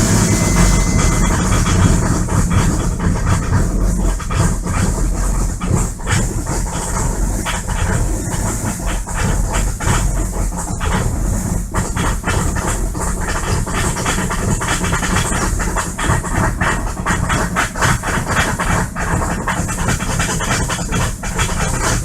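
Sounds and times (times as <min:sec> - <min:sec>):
diesel engine clattering: 0:00.0 - 0:22.0.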